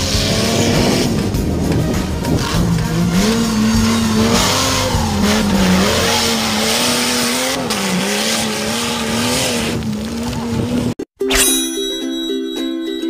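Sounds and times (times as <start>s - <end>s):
buggy engine revving: 0.0s - 11.0s
tyres spinning in dirt: 0.0s - 11.0s.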